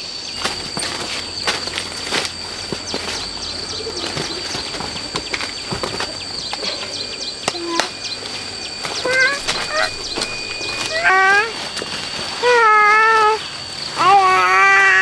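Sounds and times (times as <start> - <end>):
small birds chirping: 0.0 - 15.0
steady high-pitched tone: 0.0 - 15.0
clicks and rustles: 0.4 - 13.9.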